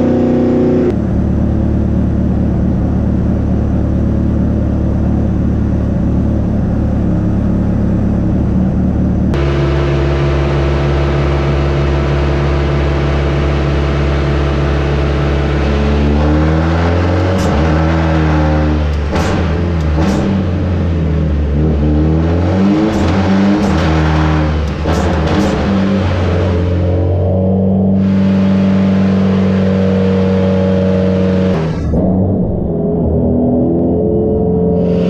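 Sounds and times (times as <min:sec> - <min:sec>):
exhaust cracks: 0:00.0 - 0:33.9
car engine idling and revving: 0:00.0 - 0:35.0.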